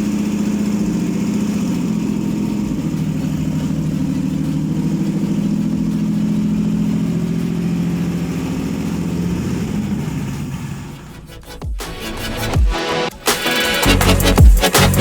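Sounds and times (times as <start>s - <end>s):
engine idling and winding down: 0.0s - 15.0s.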